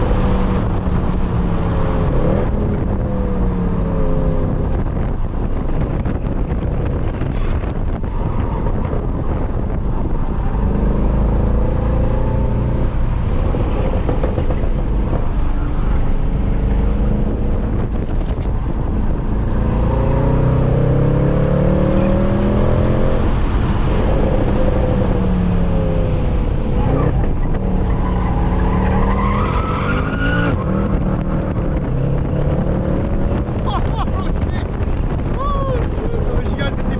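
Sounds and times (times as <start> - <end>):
car engine accelerating hard: 0.0 - 36.9.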